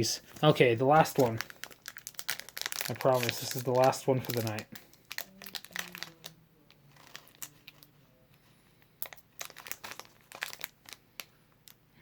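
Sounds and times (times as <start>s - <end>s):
wrapper crinkling: 0.3s - 7.9s, 9.0s - 11.8s.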